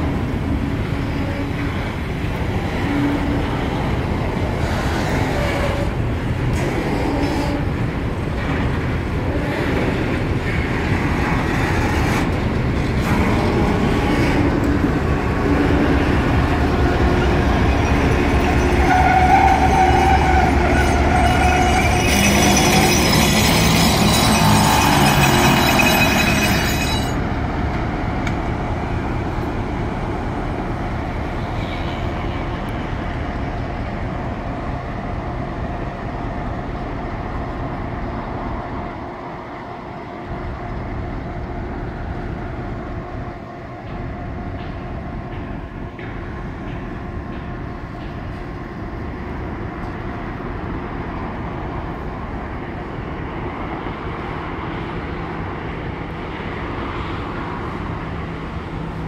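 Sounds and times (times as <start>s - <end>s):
diesel locomotive engine running: 0.0s - 59.0s
wheels rumbling on rails: 0.0s - 59.0s.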